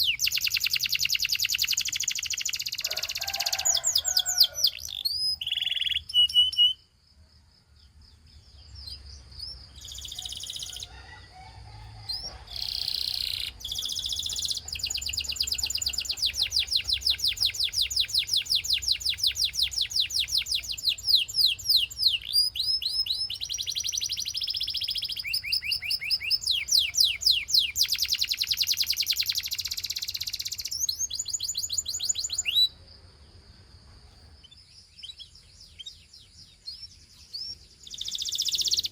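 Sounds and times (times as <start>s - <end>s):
canary singing: 0.0s - 6.9s, 8.2s - 32.8s, 34.2s - 38.9s.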